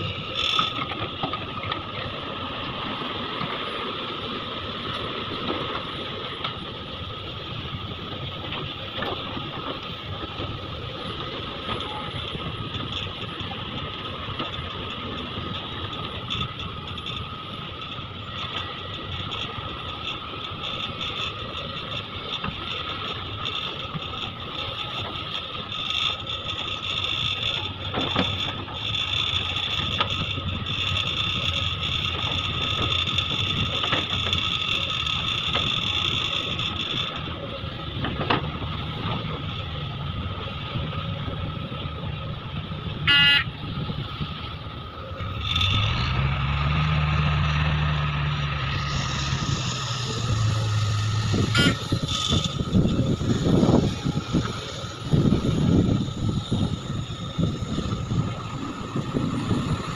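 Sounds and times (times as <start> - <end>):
excavator engine and hydraulics whine: 0.0 - 59.9.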